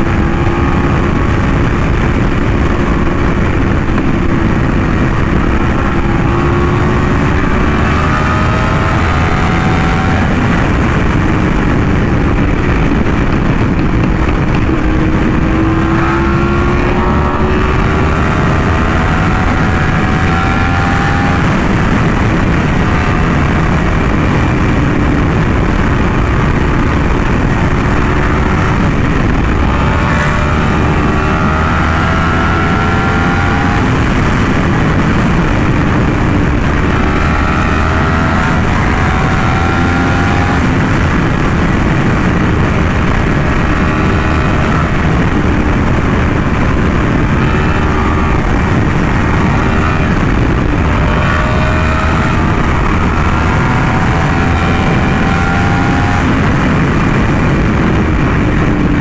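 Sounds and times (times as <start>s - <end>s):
motorcycle engine accelerating: 0.0s - 59.0s
wind noise rushing: 0.0s - 59.0s.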